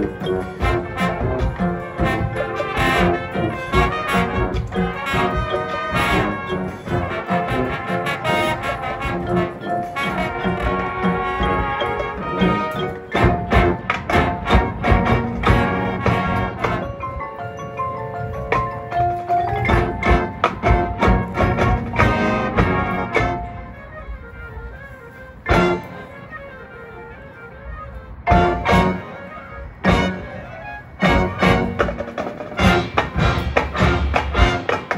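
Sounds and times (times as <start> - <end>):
marching band percussion: 0.0 - 24.0, 25.5 - 26.1, 28.3 - 34.9.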